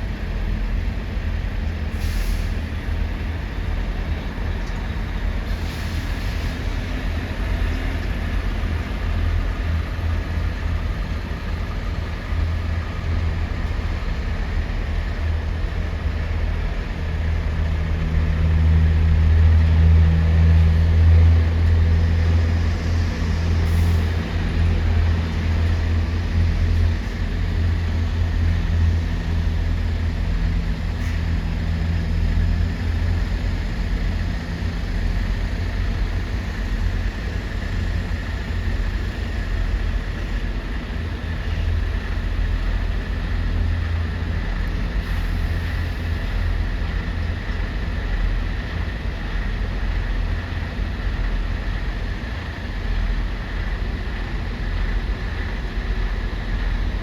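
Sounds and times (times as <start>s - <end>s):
heavy vehicle engines rumbling: 0.0s - 57.0s.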